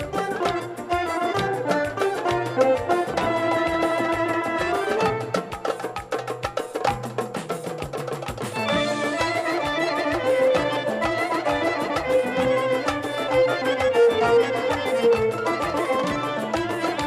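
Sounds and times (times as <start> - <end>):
folk melody: 0.0 - 6.3, 8.3 - 17.0
steady percussion beat: 0.0 - 17.0.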